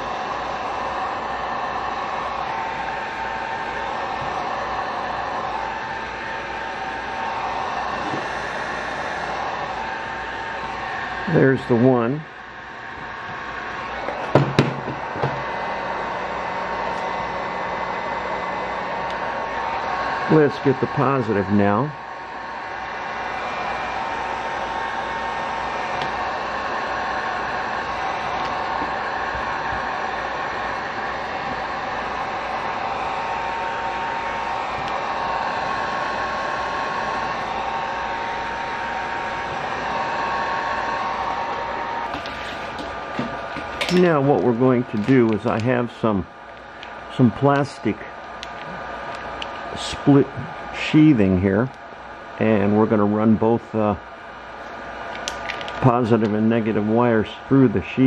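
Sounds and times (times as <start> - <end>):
heat gun blowing hiss: 0.0 - 11.8, 12.5 - 51.3.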